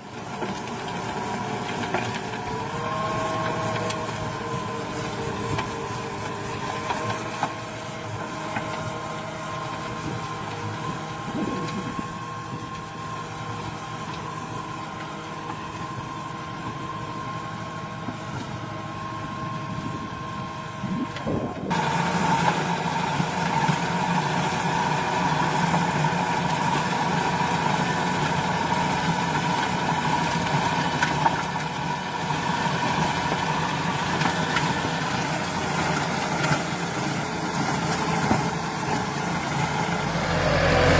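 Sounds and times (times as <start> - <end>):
farm machinery engines running: 0.0 - 40.9
louder machine running: 0.0 - 40.9.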